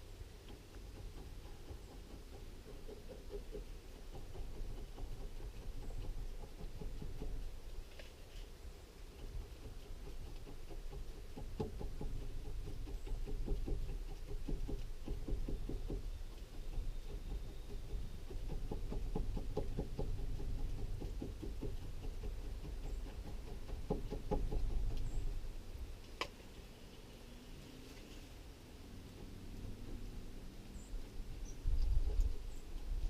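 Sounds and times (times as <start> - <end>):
low steady rumble: 0.0 - 33.0.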